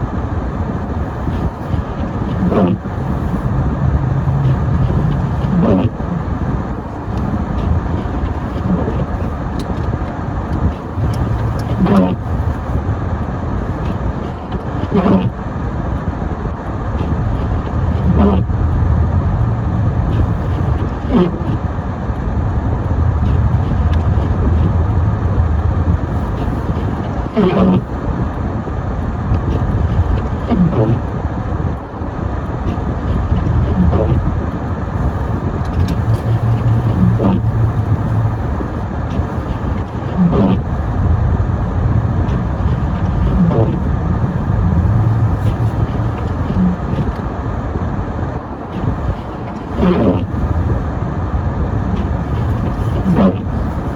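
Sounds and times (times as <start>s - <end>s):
car engine and tyres rumbling: 0.0s - 53.9s.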